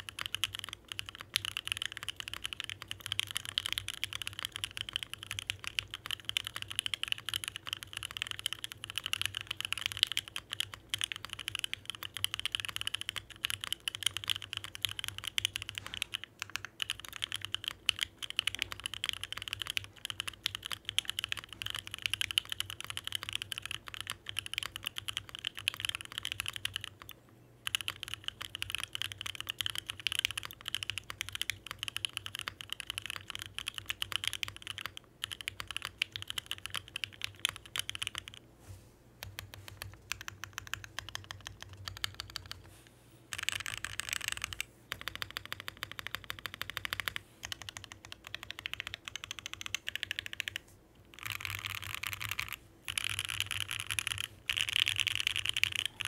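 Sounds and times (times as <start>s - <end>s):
mechanical keyboard typing: 0.0s - 38.4s, 39.2s - 42.7s, 43.3s - 56.0s.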